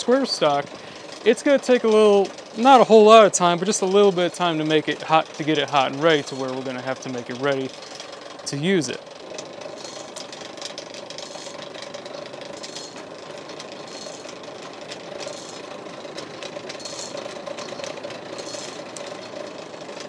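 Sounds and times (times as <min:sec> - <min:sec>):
hand-cranked blower whirring: 0:00.0 - 0:20.0.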